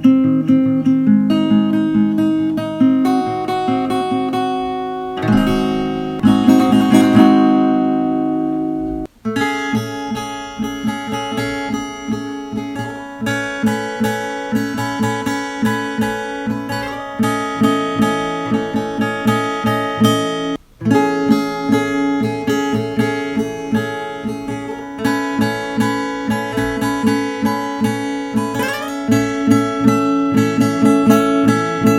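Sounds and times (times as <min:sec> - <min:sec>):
acoustic guitar chord ringing: 0:00.0 - 0:31.9
guitar notes picked quickly: 0:00.0 - 0:31.9.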